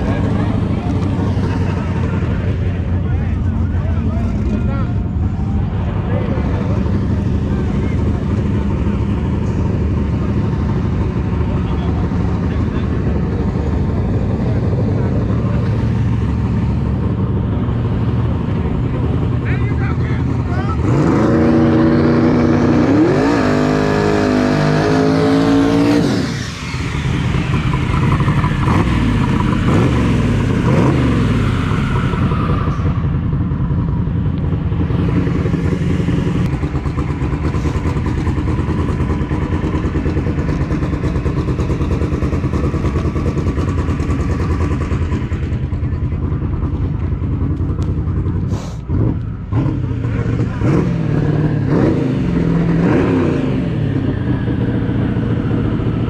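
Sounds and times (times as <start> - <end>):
car engine at full throttle: 0.0 - 56.0
loud engine drone: 0.0 - 56.0.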